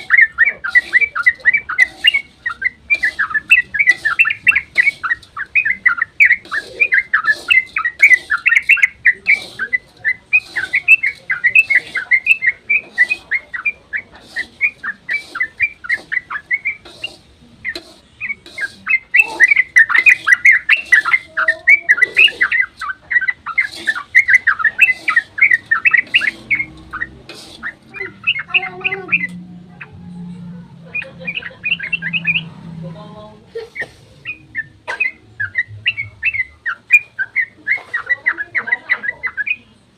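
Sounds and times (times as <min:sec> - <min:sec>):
bird chattering song: 0:00.0 - 0:32.9, 0:33.5 - 0:39.9.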